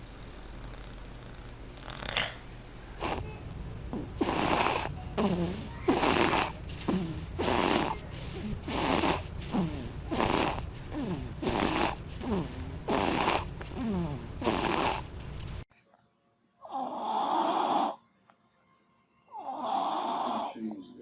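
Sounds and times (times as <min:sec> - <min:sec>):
rasping rhythmic snoring: 0:00.0 - 0:03.3, 0:03.9 - 0:15.6, 0:16.6 - 0:18.0, 0:19.3 - 0:20.8.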